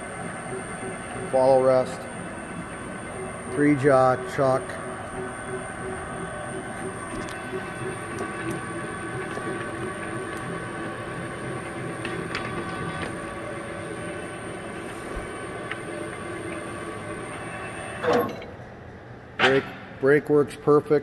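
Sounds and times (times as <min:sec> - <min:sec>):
lathe whining: 0:00.0 - 0:18.4.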